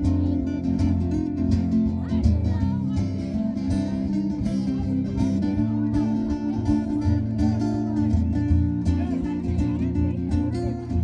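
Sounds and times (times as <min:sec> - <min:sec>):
bass guitar: 0:00.0 - 0:11.0
lead guitar: 0:00.0 - 0:11.0
steady drum beat: 0:00.0 - 0:11.0.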